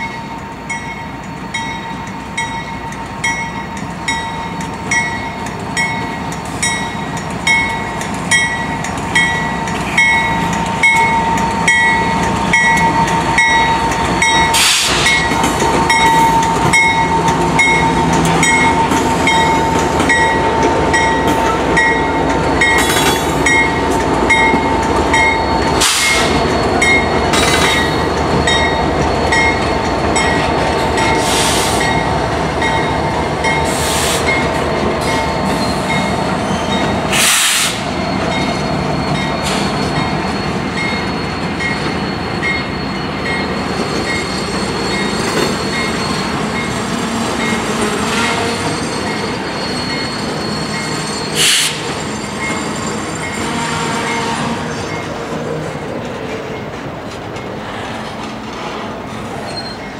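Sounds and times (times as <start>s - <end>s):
locomotive bell ringing: 0.0s - 55.3s
diesel locomotives rumbling: 0.0s - 59.9s.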